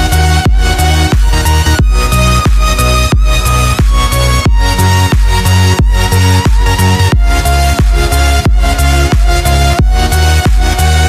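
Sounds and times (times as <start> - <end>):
electronic music with kick-drum beat: 0.0 - 11.0.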